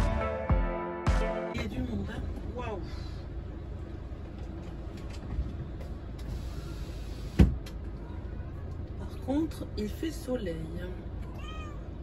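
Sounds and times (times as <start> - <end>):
motorhome engine low rumble: 1.5 - 12.0.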